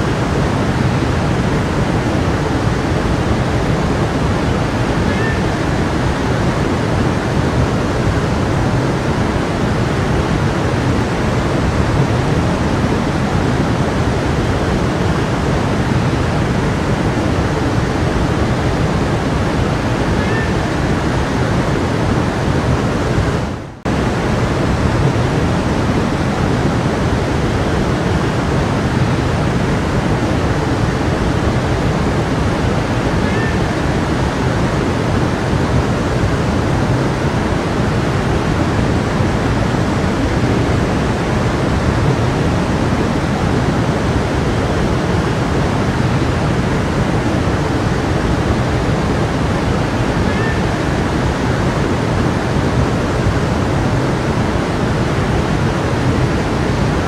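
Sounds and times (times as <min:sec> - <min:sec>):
stream water rushing and splashing: 0:00.0 - 0:57.0.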